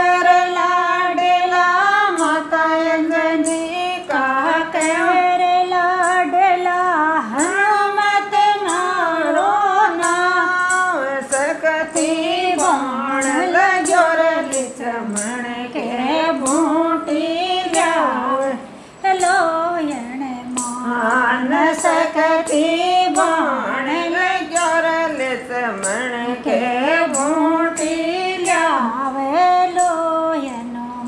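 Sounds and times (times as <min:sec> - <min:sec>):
women singing together: 0:00.0 - 0:31.0
light percussion beat: 0:00.2 - 0:30.8.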